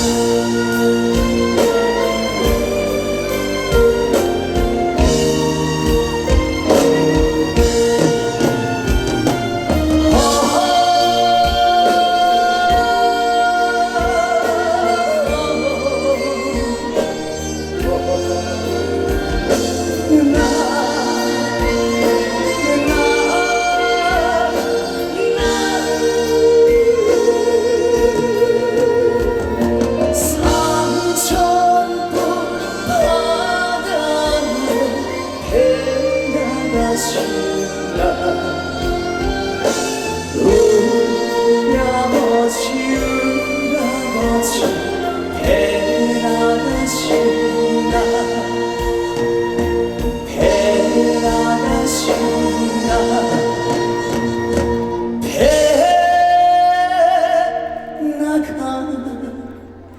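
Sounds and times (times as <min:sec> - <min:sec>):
singing in long wavering notes: 0:00.0 - 0:59.6
live trot song with band: 0:00.0 - 0:59.9.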